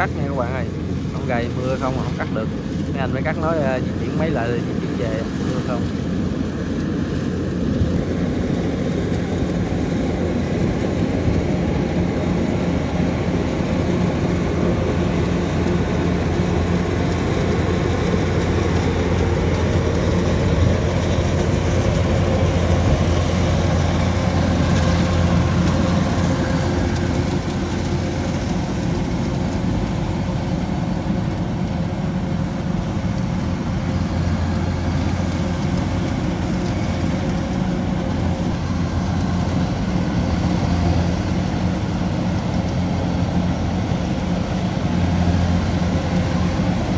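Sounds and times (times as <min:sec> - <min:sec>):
combine harvester diesel drone: 0:00.0 - 0:46.9.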